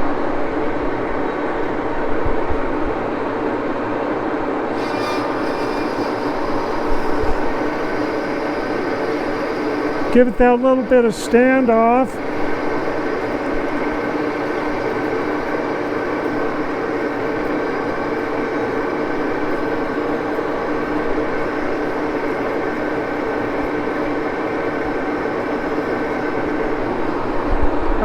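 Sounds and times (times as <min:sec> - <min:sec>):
lathe running with whine: 0:00.0 - 0:28.0.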